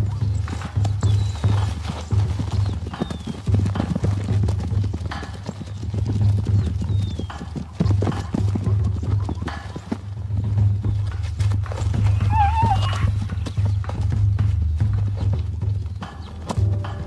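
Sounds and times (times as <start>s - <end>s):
zebra hoofbeats galloping: 0.0s - 17.0s.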